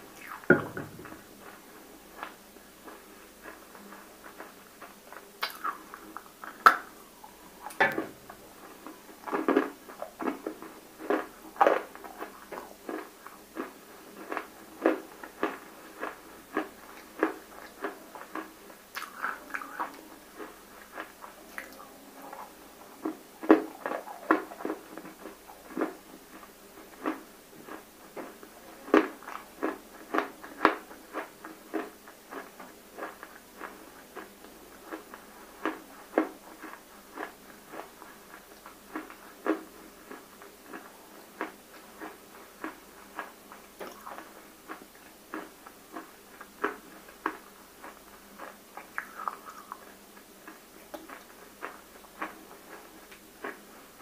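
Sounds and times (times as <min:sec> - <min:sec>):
chewing with sharp crunches: 0:00.1 - 0:54.0.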